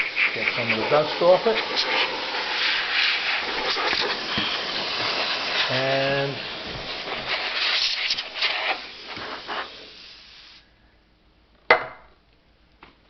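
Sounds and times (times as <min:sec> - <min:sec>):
compressed air hissing: 0:00.0 - 0:10.8.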